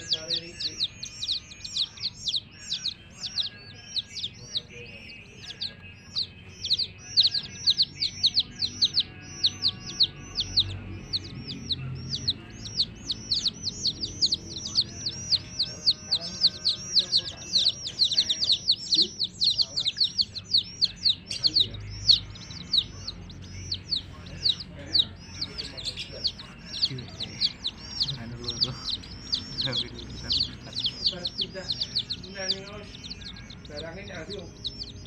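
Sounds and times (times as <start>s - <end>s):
baby chicks peeping: 0.0s - 35.0s.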